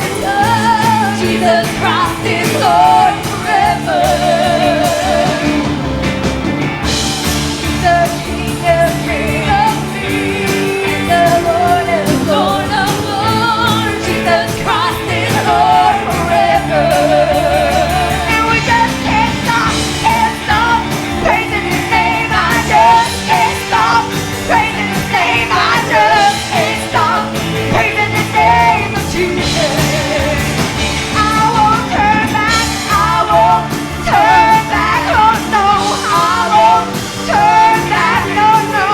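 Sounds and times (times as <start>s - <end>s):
band playing gospel chords: 0.0s - 38.9s
voices singing with vibrato: 0.0s - 38.9s.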